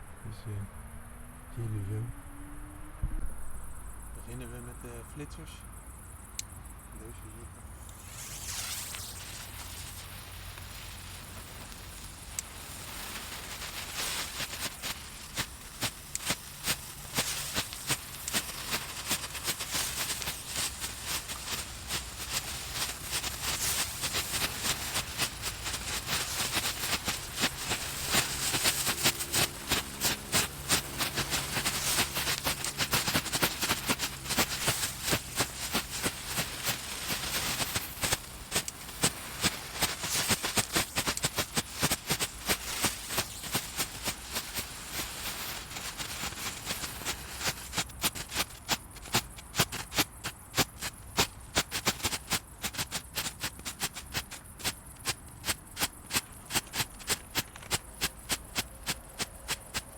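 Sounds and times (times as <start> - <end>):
firecrackers popping and crackling: 7.3 - 59.9
firecracker loud cracks: 7.8 - 59.9.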